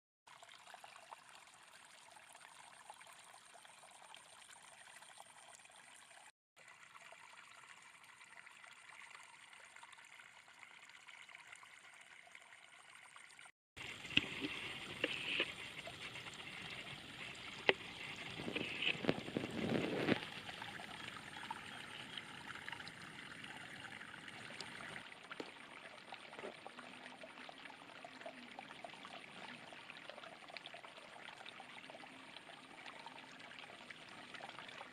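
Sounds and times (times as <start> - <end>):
running water trickling and splashing: 0.3 - 34.9.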